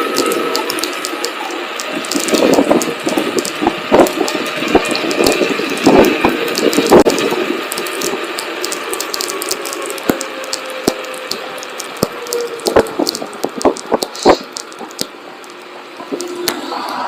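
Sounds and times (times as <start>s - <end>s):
sharp clicks and knocks: 0.0s - 16.7s
steady hiss: 0.0s - 17.0s.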